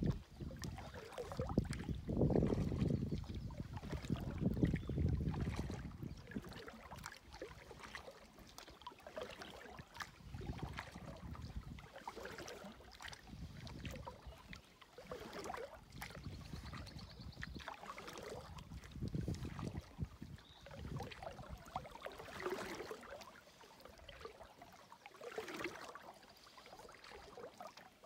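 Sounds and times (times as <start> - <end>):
canoe paddle swishing in water: 0.0 - 28.0.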